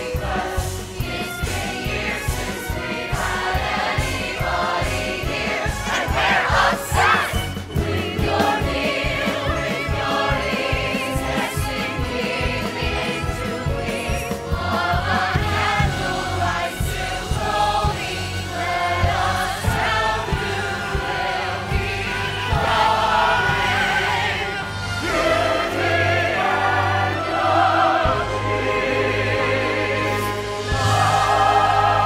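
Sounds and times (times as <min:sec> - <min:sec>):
instrumental accompaniment: 0:00.0 - 0:32.0
voices singing: 0:00.0 - 0:32.0.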